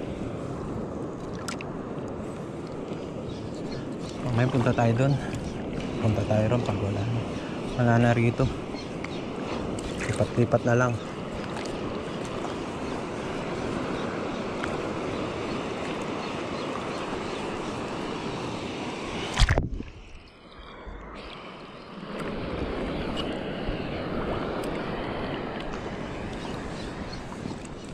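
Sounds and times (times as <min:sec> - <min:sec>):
surf: 0:00.0 - 0:27.9
wind: 0:00.0 - 0:27.9.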